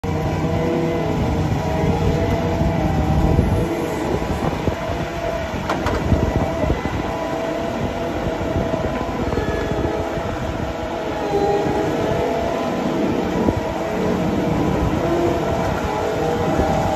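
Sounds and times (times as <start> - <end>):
engine drone: 0.0 - 16.9
heavy low rumble: 0.0 - 16.9.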